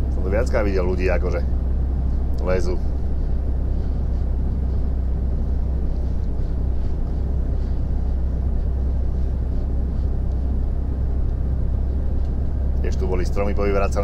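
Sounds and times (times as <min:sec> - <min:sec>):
lorry engine drone: 0:00.0 - 0:14.0
road rumble: 0:00.0 - 0:14.0.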